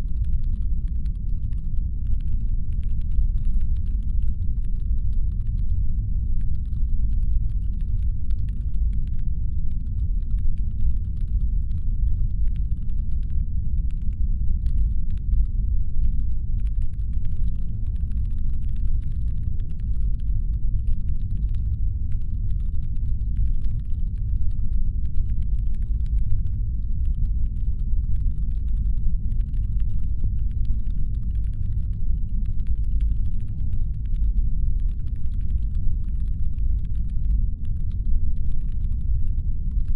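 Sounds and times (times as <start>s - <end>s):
deep brown-noise rumble: 0.0s - 39.9s
faint irregular clicking: 0.0s - 39.9s.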